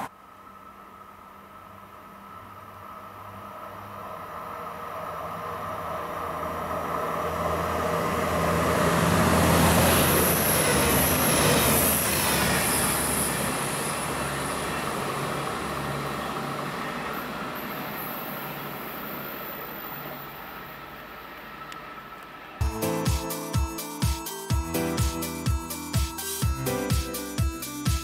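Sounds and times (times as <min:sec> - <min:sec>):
wheel and rail noise: 0:00.0 - 0:22.6
diesel train passing: 0:00.0 - 0:28.0.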